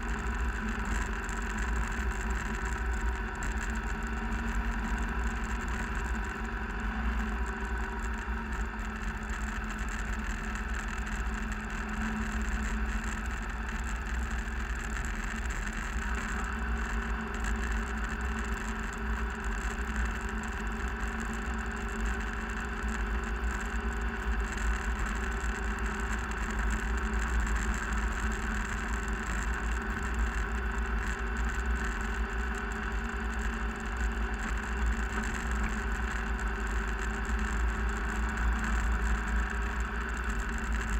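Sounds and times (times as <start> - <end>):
vehicle driving on gravel road: 0.0 - 40.9.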